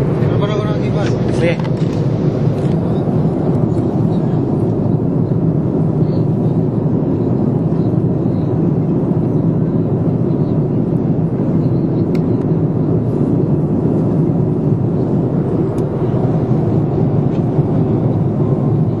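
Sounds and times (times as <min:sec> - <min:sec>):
airliner cabin engine rush: 0:00.0 - 0:19.0.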